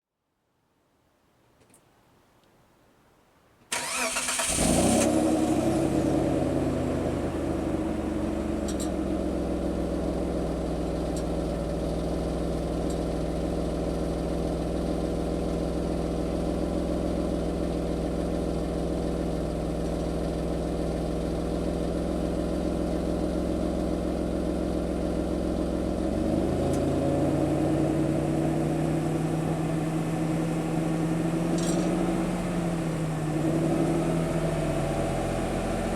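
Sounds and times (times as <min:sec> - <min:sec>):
car engine starting and idling: 0:03.7 - 0:35.9.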